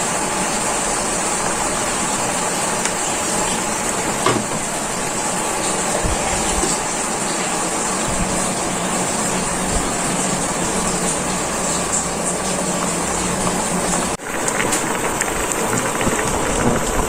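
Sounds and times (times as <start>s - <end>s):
soup boiling with bubbling hiss: 0.0s - 17.0s.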